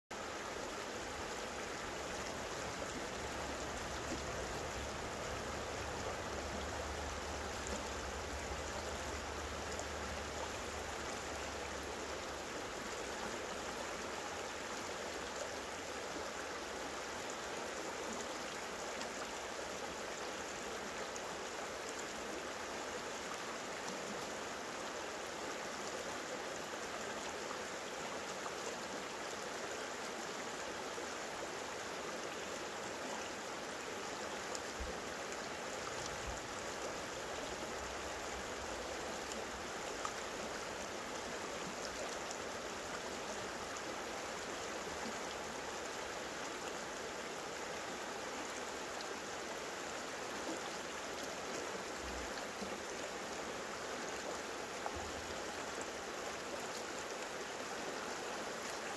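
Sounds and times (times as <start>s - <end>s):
river water rushing over boulders: 0.1s - 58.9s.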